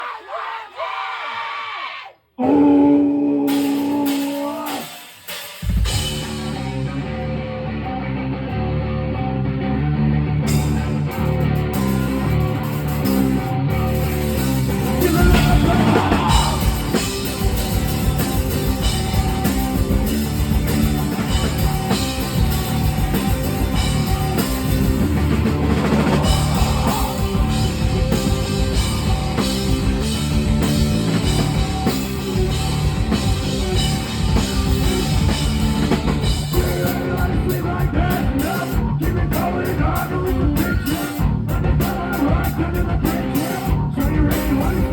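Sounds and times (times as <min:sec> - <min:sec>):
rock guitar: 0:02.4 - 0:44.9
drum kit: 0:03.3 - 0:07.3, 0:10.5 - 0:44.9.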